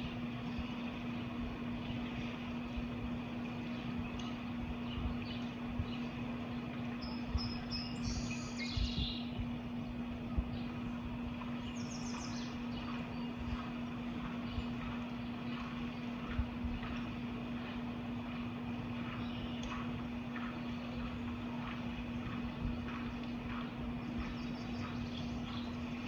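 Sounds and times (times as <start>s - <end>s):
constant hum: 0.0s - 26.0s
small birds chirping: 3.5s - 26.0s.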